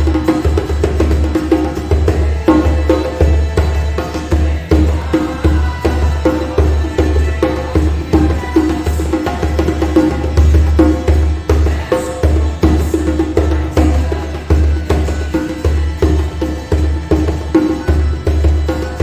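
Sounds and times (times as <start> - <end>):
djembe drumming: 0.0 - 19.0.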